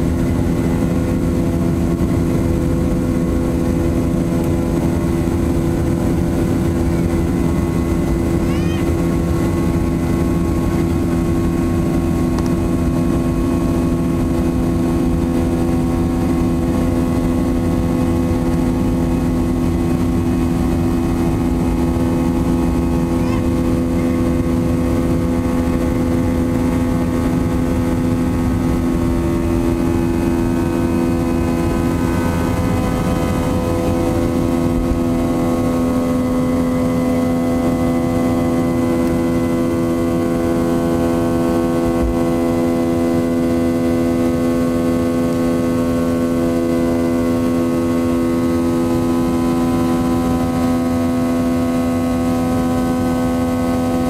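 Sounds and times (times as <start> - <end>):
jet engine droning: 0.0 - 54.0
runway rumble: 0.0 - 54.0.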